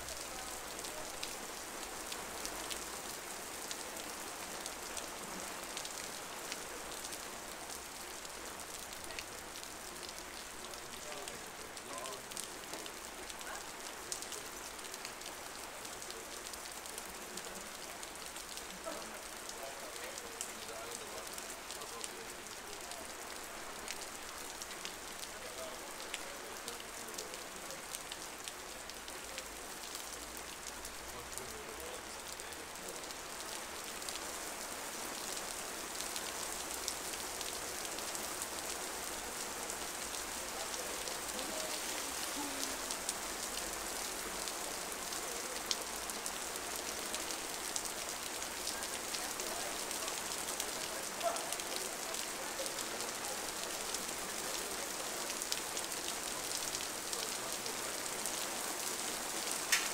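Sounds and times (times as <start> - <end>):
raindrops ticking on hard surfaces: 0.0 - 59.9
steady hiss of rain: 0.0 - 59.9.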